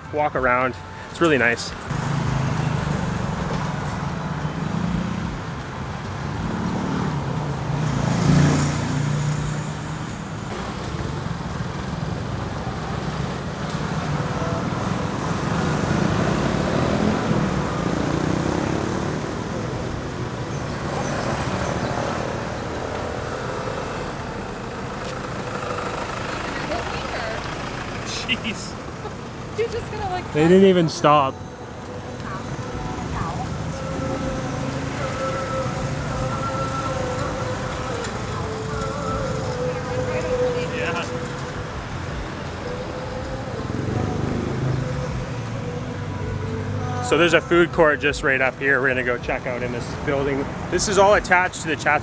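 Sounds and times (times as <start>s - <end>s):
road traffic: 0.0s - 52.0s
loud vehicle passing: 1.3s - 52.0s.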